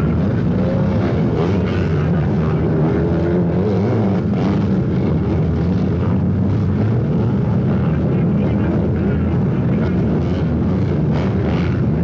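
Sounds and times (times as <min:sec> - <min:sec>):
motocross engines droning: 0:00.0 - 0:12.0.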